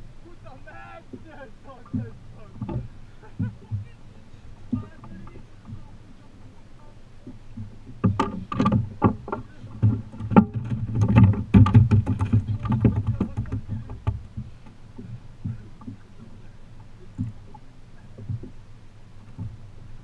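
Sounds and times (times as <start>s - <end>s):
knocks and thumps on boat hull: 1.1s - 6.6s, 7.2s - 18.6s, 19.2s - 20.0s.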